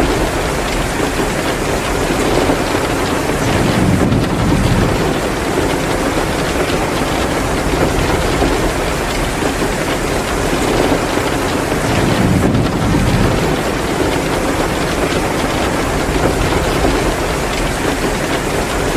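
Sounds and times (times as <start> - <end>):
heavy rain pouring: 0.0 - 18.9
wood fire crackling: 0.0 - 18.9.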